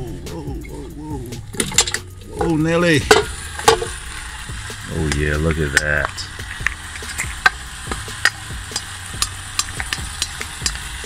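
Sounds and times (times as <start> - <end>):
meat sizzling in a pot: 1.5 - 11.0.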